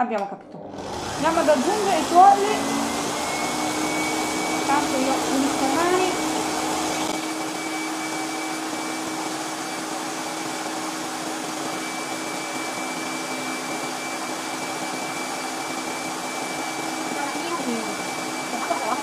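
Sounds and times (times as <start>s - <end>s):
stand mixer whisk whirring: 0.6s - 19.0s.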